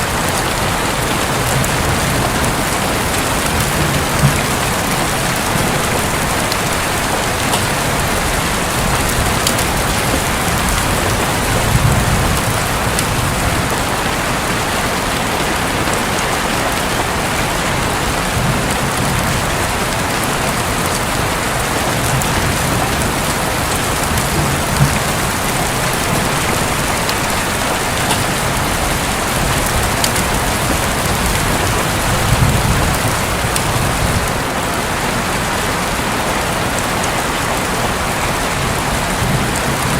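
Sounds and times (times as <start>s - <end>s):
distant thunder rumbling: 0.0s - 15.2s, 16.8s - 34.6s
heavy rain on a roof: 0.0s - 39.9s.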